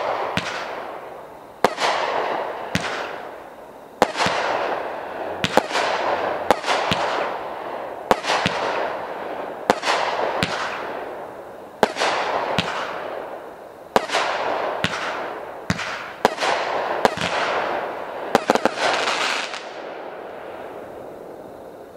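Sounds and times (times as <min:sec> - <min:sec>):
firework bangs: 0:00.0 - 0:21.7
firework crackling: 0:00.0 - 0:21.9.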